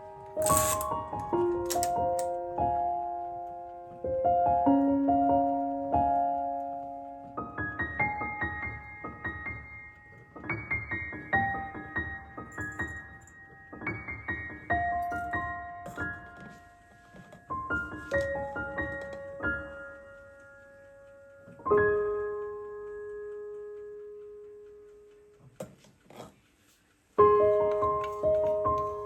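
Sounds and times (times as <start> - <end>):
gentle solo piano music: 0.0 - 23.8, 27.2 - 29.0.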